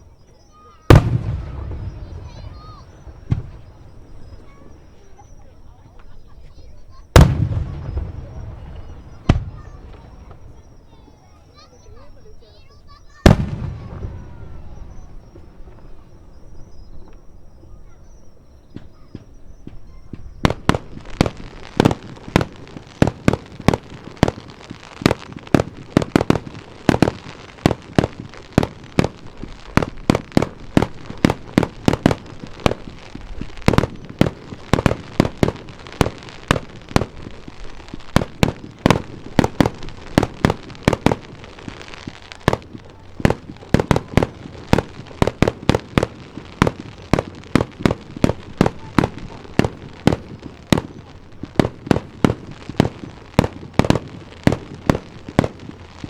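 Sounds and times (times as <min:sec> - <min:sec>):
fireworks shells bursting: 0:00.0 - 0:56.0.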